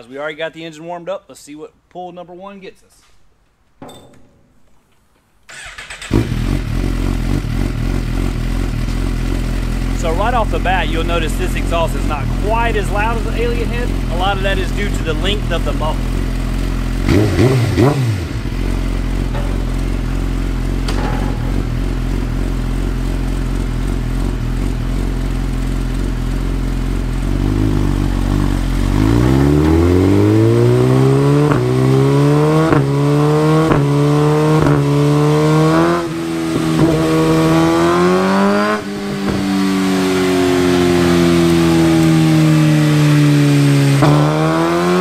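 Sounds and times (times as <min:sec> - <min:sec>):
motorcycle engine idling and revving: 0:05.5 - 0:45.0.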